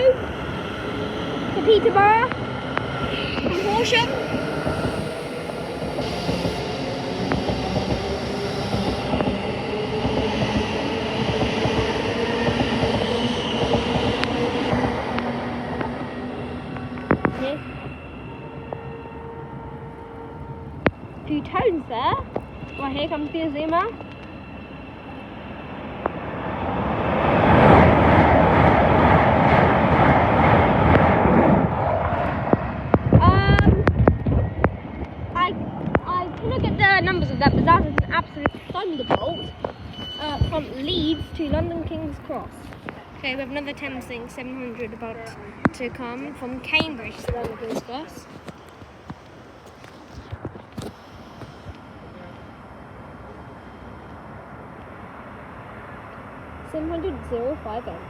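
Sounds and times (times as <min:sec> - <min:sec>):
electric train whining: 0:00.0 - 0:58.0
wheels rumbling on rail: 0:00.0 - 0:58.0.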